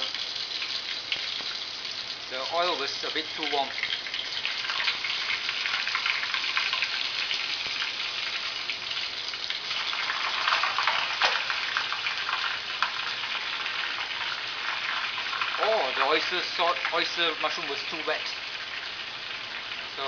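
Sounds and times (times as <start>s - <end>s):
hot oil sizzling and crackling: 0.0s - 20.0s.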